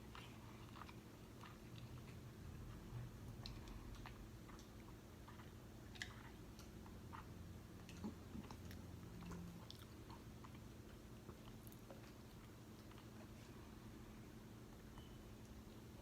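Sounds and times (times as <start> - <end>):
close-up chewing: 0.0 - 16.0.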